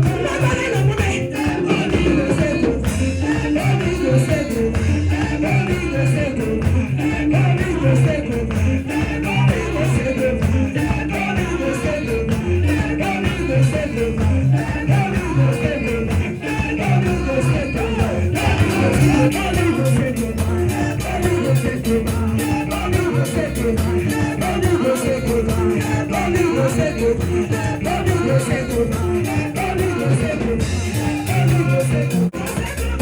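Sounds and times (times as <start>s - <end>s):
song with beat guitar and singing: 0.0s - 33.0s.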